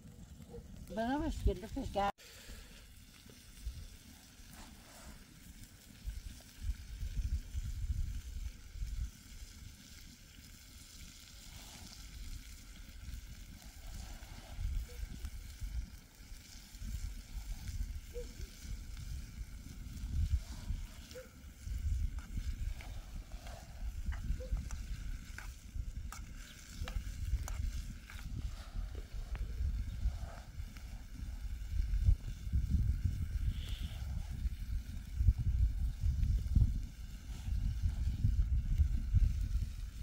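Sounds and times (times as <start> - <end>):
wind on microphone: 3.6 - 40.0.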